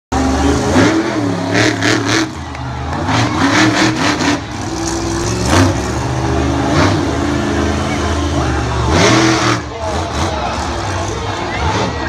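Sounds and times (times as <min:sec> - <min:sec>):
truck engine revving: 0:00.1 - 0:12.0.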